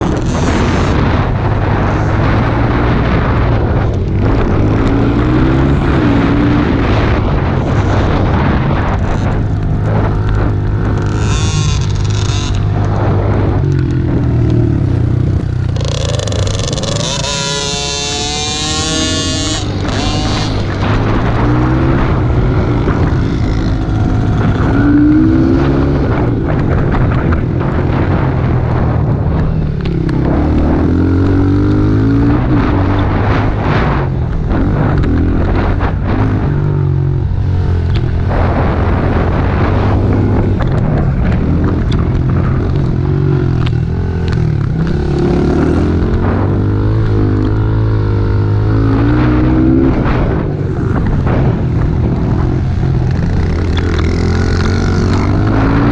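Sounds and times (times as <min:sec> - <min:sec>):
pit bike engines revving: 0:00.0 - 0:55.9.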